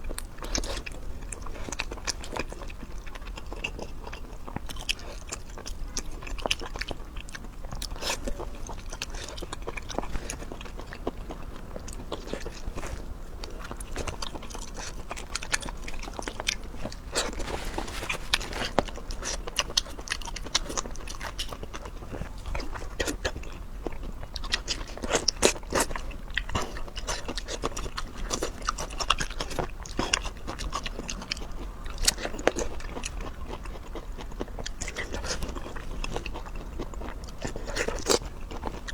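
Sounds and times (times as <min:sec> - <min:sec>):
person chewing and crunching: 0:00.0 - 0:38.9.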